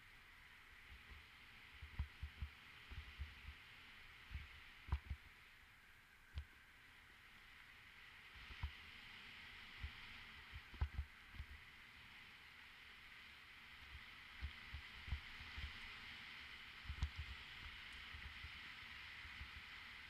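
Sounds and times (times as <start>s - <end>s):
wind and tyre noise: 0.0s - 20.0s.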